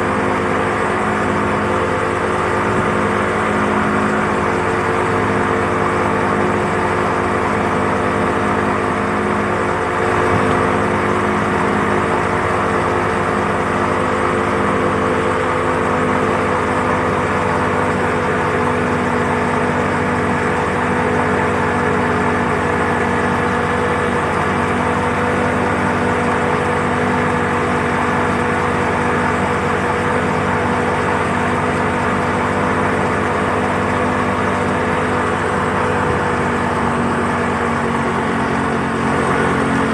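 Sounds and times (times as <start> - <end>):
churning wake rushing: 0.0 - 39.9
speedboat engine running: 0.0 - 39.9.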